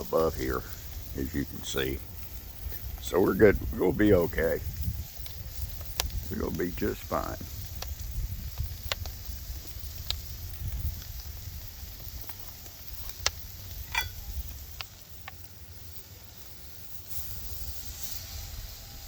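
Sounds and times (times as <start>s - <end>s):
sharp pops and crackles: 0.0s - 18.2s
steak fat sizzling: 0.0s - 19.0s.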